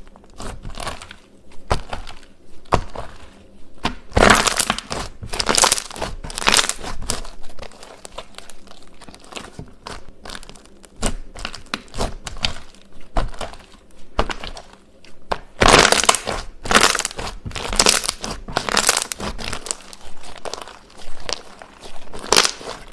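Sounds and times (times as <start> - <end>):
brittle crunching and crackling: 0.0 - 22.9.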